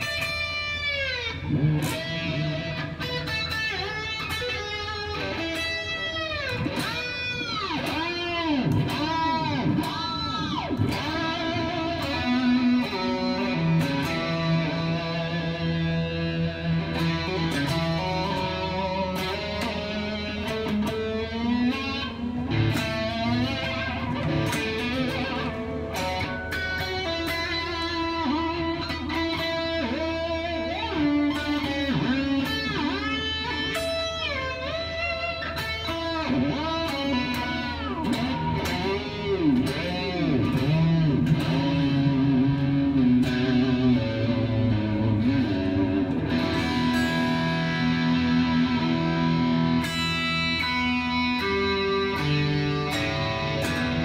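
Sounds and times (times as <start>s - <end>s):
electric guitar lead lines: 0.0s - 54.0s.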